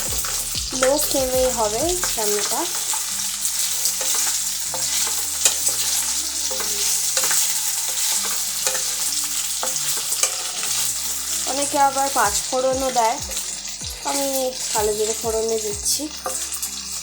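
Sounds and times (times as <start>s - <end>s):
potatoes sizzling in oil: 0.0s - 17.0s
spatula scraping and knocking pan: 0.0s - 17.0s.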